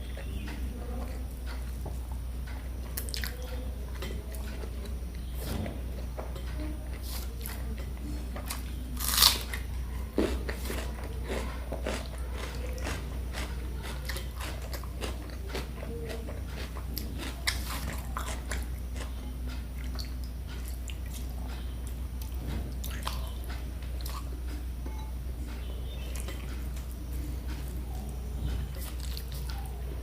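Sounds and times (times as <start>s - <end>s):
person chewing crunchy food: 0.0s - 24.6s, 25.6s - 29.8s.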